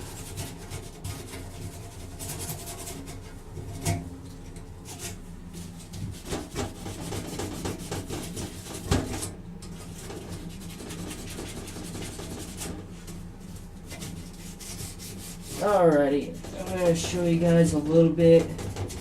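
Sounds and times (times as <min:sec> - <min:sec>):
foil scrubbing metal pipe: 0:00.0 - 0:19.0.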